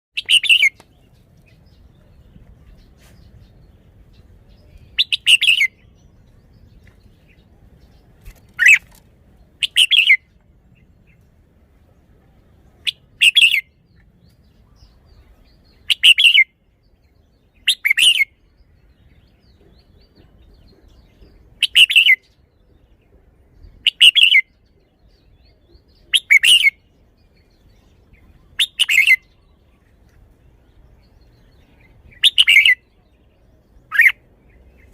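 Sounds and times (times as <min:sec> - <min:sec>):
bird singing short phrases: 0:00.2 - 0:09.0, 0:09.6 - 0:11.2, 0:12.8 - 0:22.4, 0:23.6 - 0:34.9.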